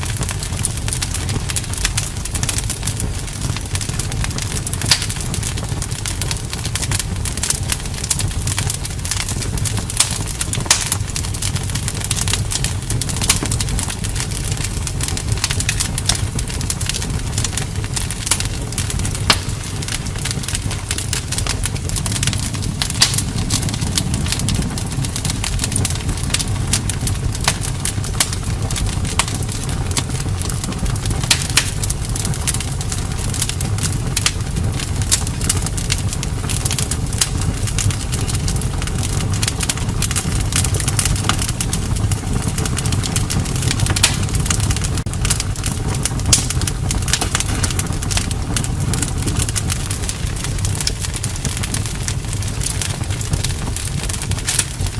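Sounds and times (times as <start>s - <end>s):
burning wood crackling and popping: 0.0s - 54.9s
flames rushing: 0.0s - 54.9s.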